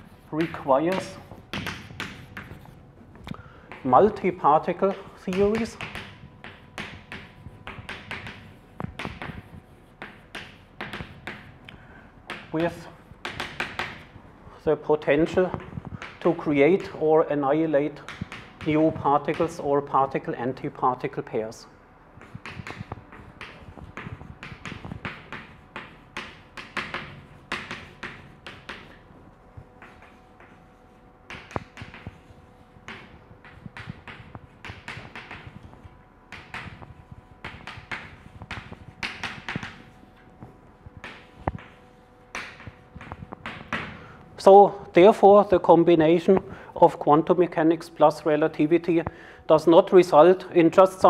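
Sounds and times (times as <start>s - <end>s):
chalk tapping and scratching on blackboard: 0.0s - 14.2s, 14.9s - 21.5s, 22.1s - 45.6s.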